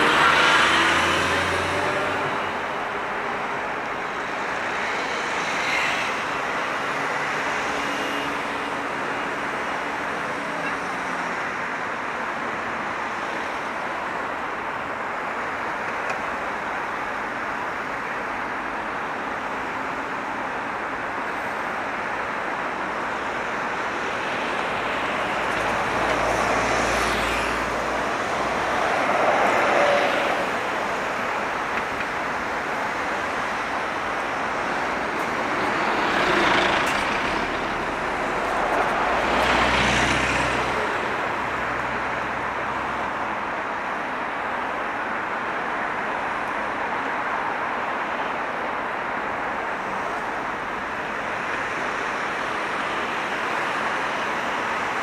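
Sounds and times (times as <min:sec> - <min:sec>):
road noise hum: 0:00.0 - 0:55.0
vehicles passing close by: 0:00.0 - 0:55.0.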